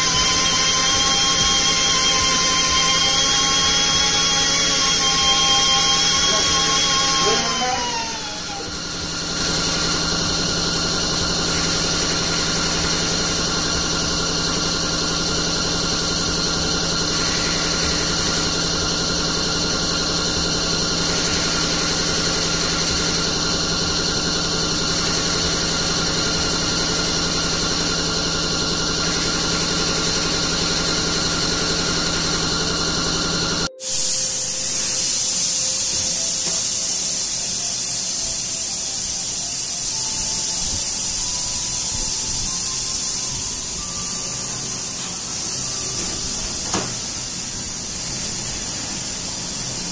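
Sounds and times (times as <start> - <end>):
machine whining steadily: 0.0 - 49.9.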